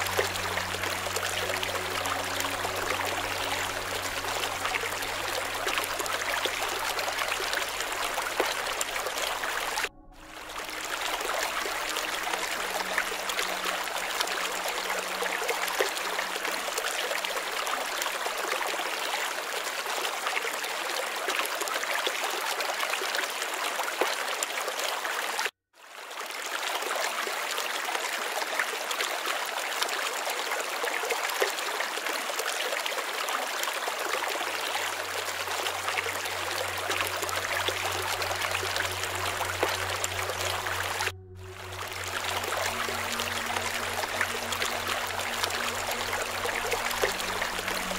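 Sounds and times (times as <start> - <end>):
running water: 0.0 - 47.9.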